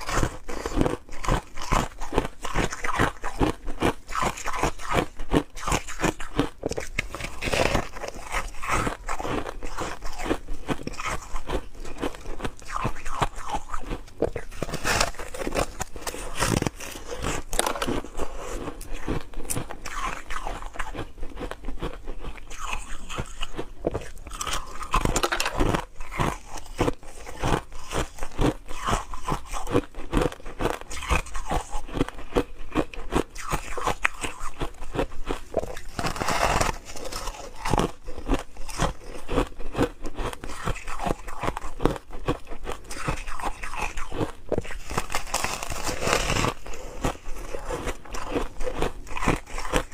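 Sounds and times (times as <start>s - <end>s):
ice crunching in mouth: 0.0s - 49.9s.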